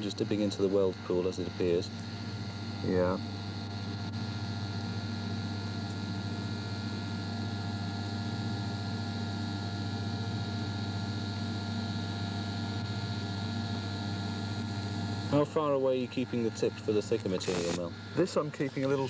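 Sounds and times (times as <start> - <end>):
welding arc humming and hissing: 0.0 - 19.0.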